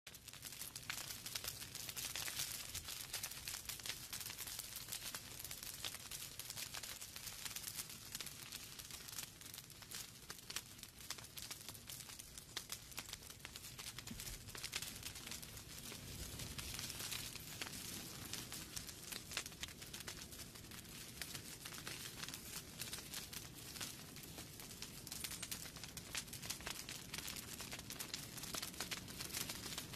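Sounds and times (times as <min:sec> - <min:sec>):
wood fire crackling: 0:00.1 - 0:29.9.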